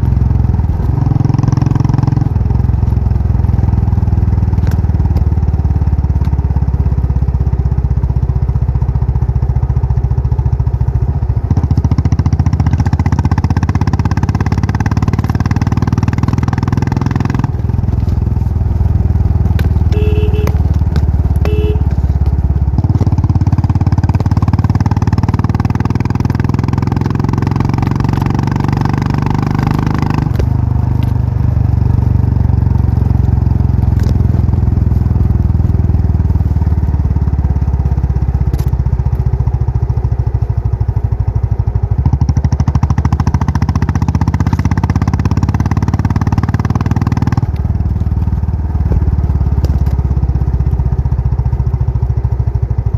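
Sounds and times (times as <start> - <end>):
motorcycle engine thumping exhaust: 0.0 - 52.9.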